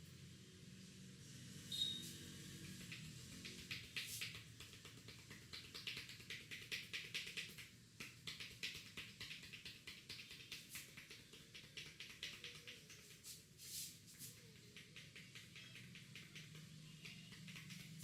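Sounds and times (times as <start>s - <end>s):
hands tapping on head: 2.6s - 18.0s.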